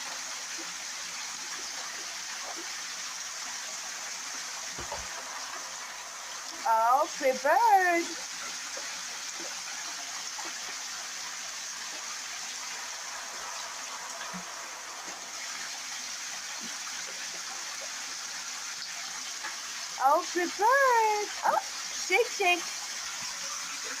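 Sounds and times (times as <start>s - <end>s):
water running into a bathtub: 0.0s - 24.0s.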